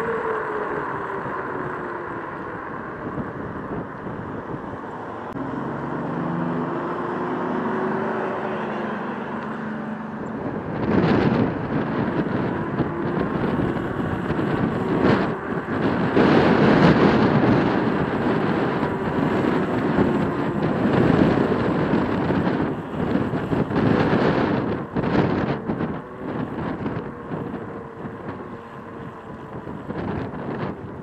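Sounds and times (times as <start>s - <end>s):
low droning hum: 0.0s - 31.0s
road noise and traffic: 0.0s - 31.0s
wind buffeting microphone: 0.0s - 31.0s.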